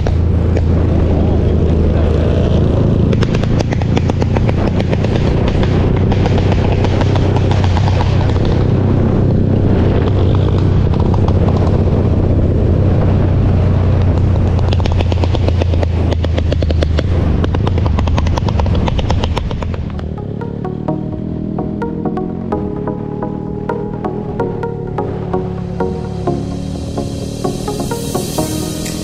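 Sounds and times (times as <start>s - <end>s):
motorcycle engine drone: 0.0s - 29.0s.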